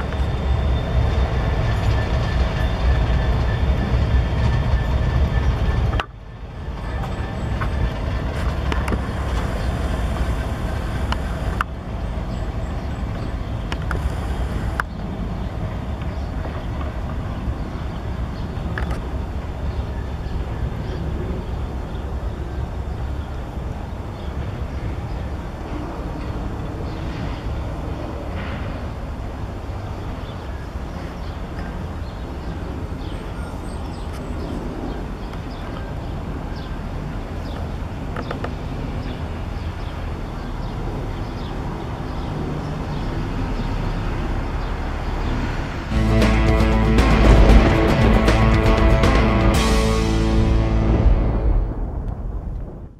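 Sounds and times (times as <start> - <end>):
diesel locomotive engine rumble: 0.0 - 52.9.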